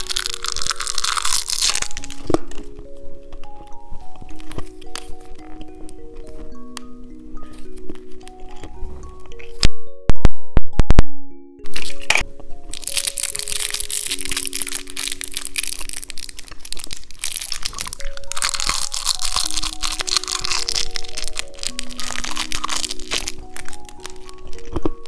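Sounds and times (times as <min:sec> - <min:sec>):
candies crunched and chewed: 0:00.0 - 0:09.7, 0:11.6 - 0:25.0
soft background music: 0:00.0 - 0:25.0.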